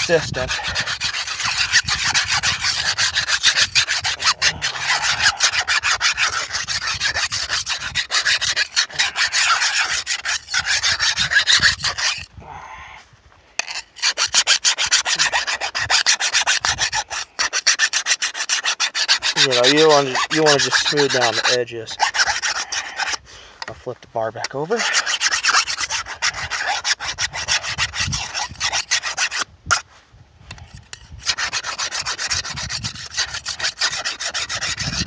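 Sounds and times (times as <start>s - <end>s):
file rasping on steel: 0.0s - 12.3s, 13.6s - 23.7s, 24.4s - 29.8s, 30.8s - 35.0s.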